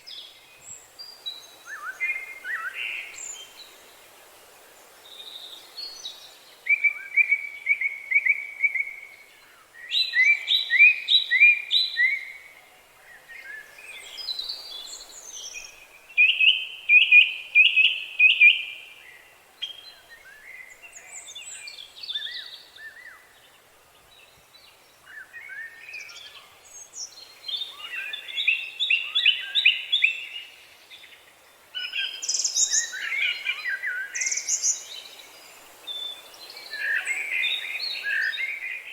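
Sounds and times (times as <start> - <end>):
faint outdoor hiss: 0.0 - 38.9
songbirds singing: 0.0 - 38.9.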